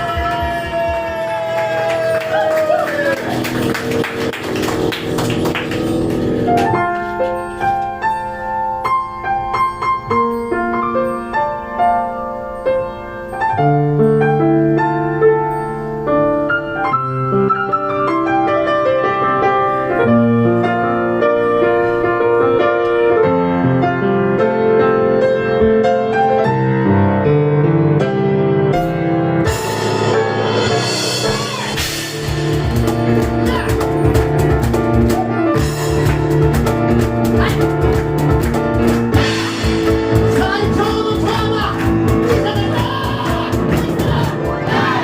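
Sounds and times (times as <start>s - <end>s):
acoustic piano melody: 0.0s - 45.0s.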